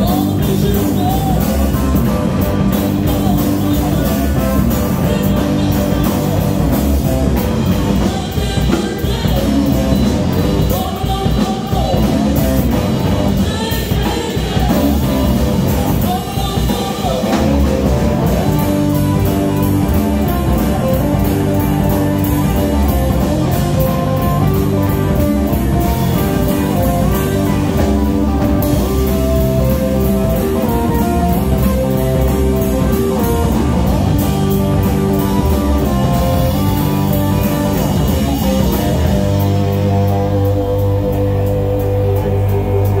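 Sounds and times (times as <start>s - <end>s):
blues rock band playing: 0.0s - 43.0s.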